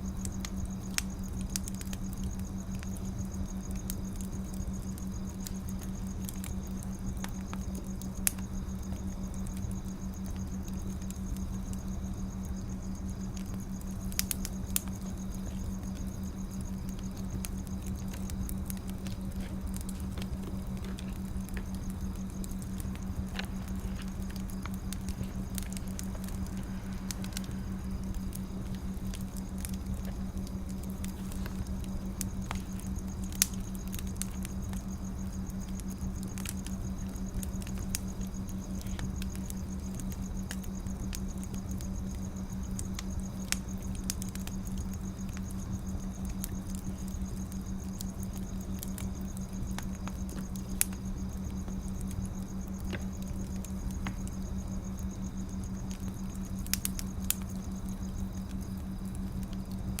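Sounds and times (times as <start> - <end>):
low rumble and hum: 0.0 - 60.0
wood fire crackling: 0.0 - 60.0.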